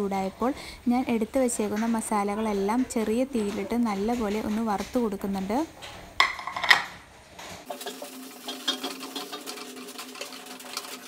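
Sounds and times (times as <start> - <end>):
spatula scraping metal pan: 0.6 - 11.0.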